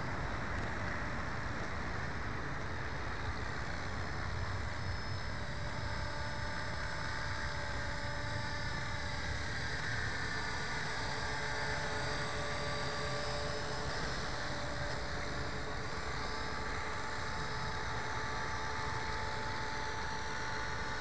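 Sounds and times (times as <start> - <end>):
rc helicopter motor whine: 0.0 - 21.0.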